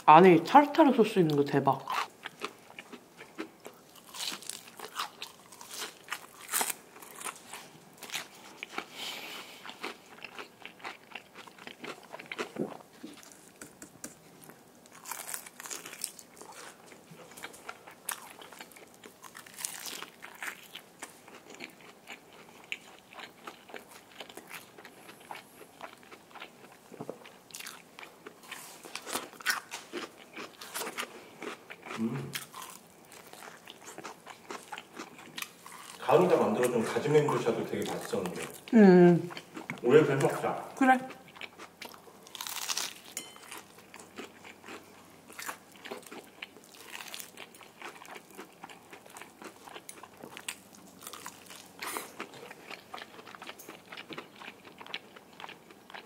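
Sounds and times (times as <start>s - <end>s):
soft chewing: 1.3s - 56.0s
crunching fried chicken: 1.8s - 26.7s, 27.5s - 38.6s, 41.3s - 56.0s.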